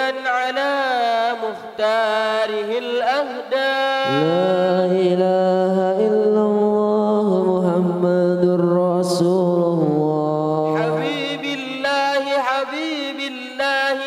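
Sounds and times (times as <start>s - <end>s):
person chanting melodically: 0.0s - 14.0s.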